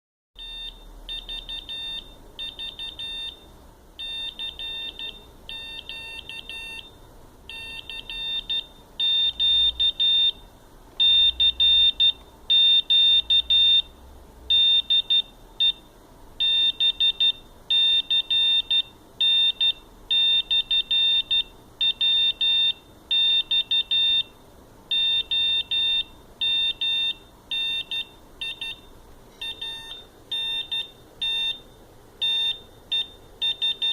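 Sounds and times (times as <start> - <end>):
morse code beeping: 0.4 - 13.9, 14.5 - 33.9.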